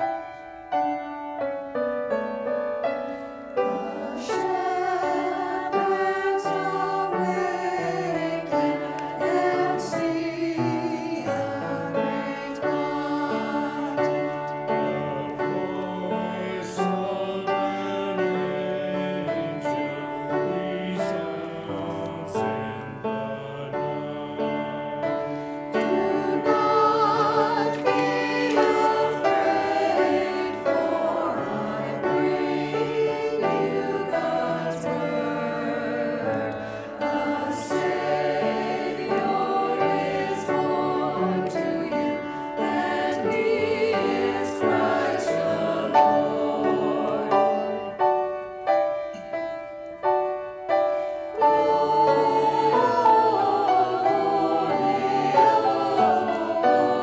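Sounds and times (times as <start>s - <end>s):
upright piano: 0.0s - 57.0s
choir singing an anthem: 3.5s - 49.6s, 50.2s - 57.0s.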